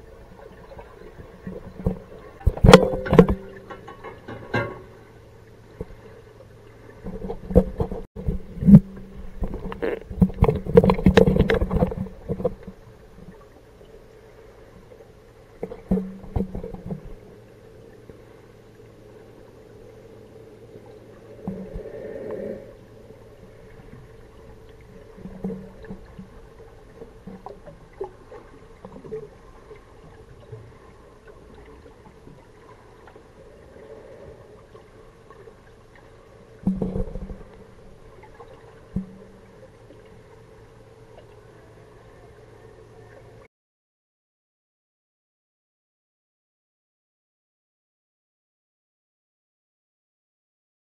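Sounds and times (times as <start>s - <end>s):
steady low underwater hum: 0.0s - 43.5s.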